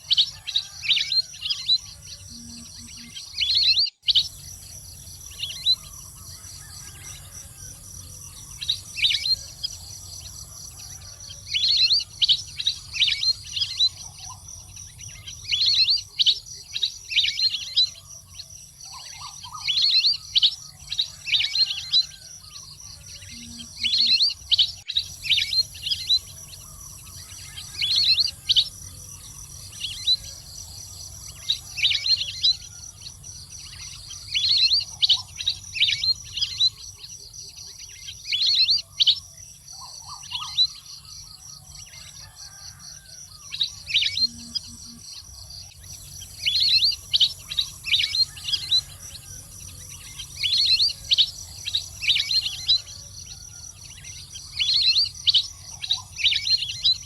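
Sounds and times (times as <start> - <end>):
high insect drone: 0.0 - 3.5, 4.1 - 57.0.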